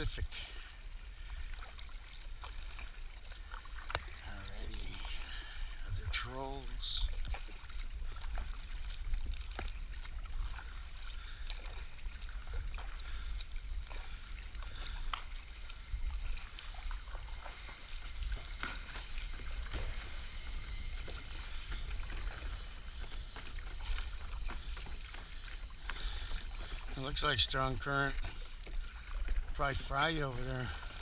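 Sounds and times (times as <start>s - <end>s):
paddle splashes and drips: 0.0s - 31.0s.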